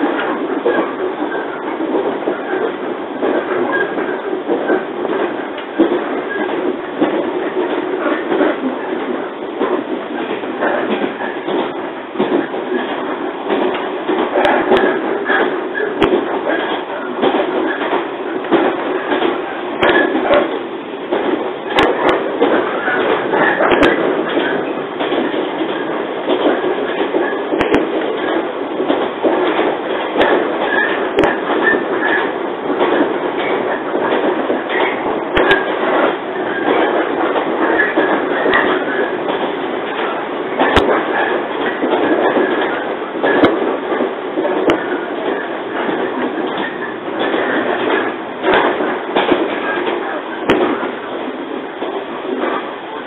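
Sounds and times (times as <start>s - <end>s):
train car rushing and rattling: 0.0s - 53.0s.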